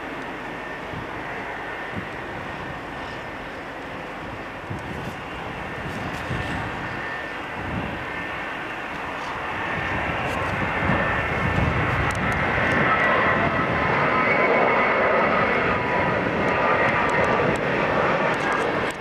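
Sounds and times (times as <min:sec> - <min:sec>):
high engine whine: 0:00.0 - 0:19.0
jet airliner engines approaching: 0:00.0 - 0:19.0.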